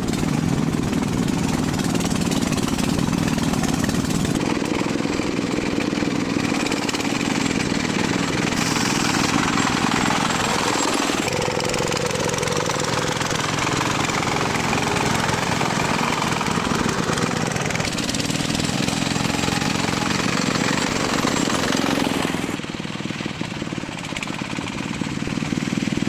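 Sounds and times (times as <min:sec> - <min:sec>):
engine running rough pulsing: 0:00.0 - 0:26.0.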